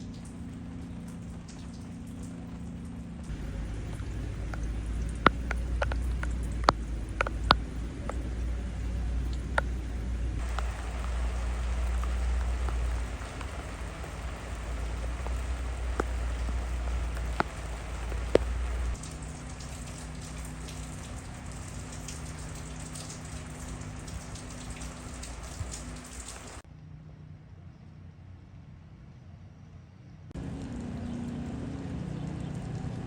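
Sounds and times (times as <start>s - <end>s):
rain falling: 0.0s - 26.6s, 30.4s - 33.0s
low rumble: 0.2s - 26.6s.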